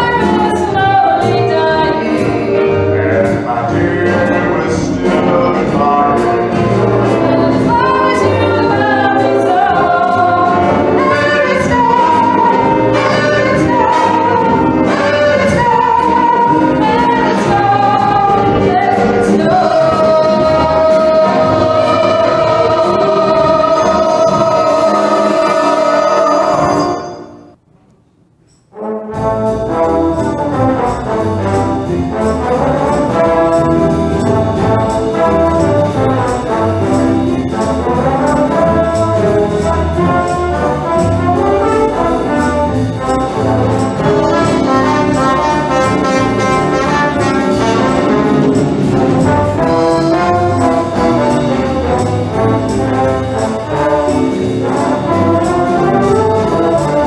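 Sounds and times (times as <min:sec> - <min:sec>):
brass band music: 0:00.0 - 0:27.7, 0:28.6 - 0:57.0.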